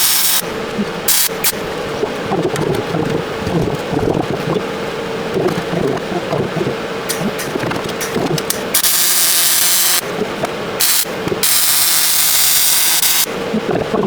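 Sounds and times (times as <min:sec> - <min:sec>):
welding arc hissing and crackling: 0:00.0 - 0:10.0, 0:10.8 - 0:13.3
steady hum: 0:00.0 - 0:14.0.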